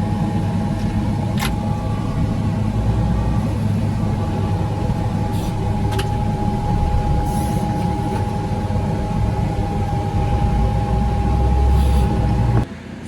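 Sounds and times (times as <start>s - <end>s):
high whine: 0.0s - 12.7s
loader engine rumbling: 0.0s - 13.0s.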